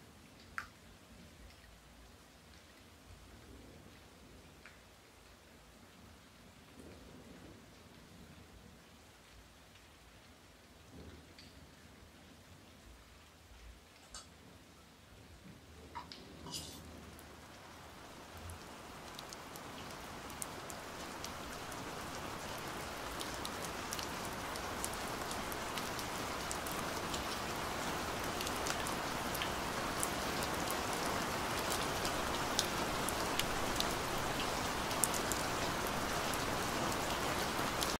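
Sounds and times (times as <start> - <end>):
heavy rain falling: 2.3 - 38.0.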